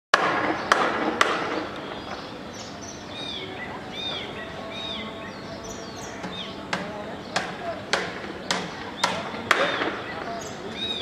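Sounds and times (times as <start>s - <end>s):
bird mewing calls: 1.4s - 11.0s.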